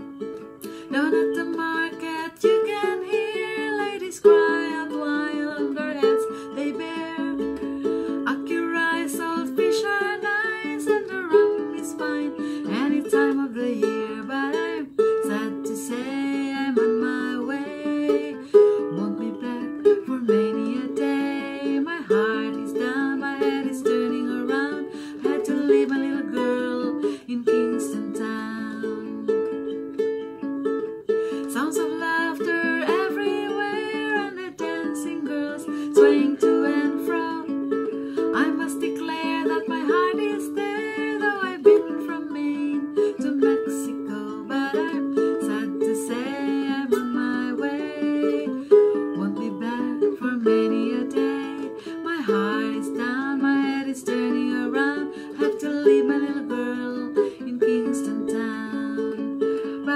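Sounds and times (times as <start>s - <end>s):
ukulele strumming: 0.0s - 59.9s
woman singing: 0.0s - 59.9s.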